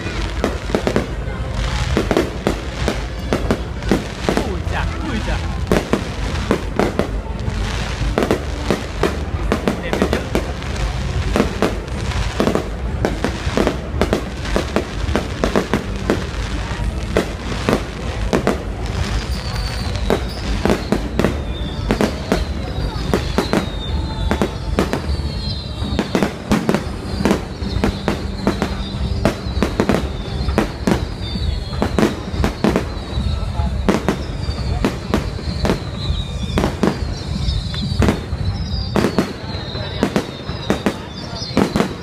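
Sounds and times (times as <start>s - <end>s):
fireworks bangs: 0.0s - 42.0s.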